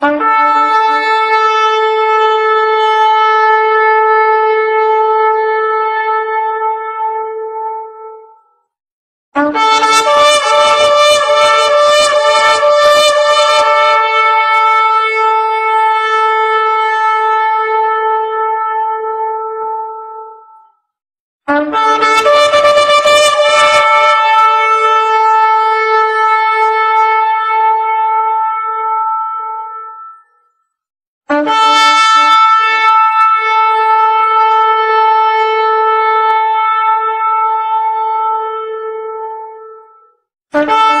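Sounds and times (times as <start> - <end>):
shofar blasts: 0.0 - 8.4, 9.4 - 20.7, 21.5 - 30.5, 31.3 - 41.0.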